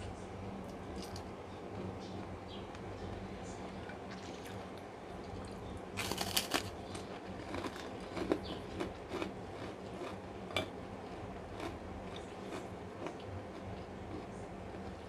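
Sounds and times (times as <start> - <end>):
crunchy chewing: 0.7 - 15.0.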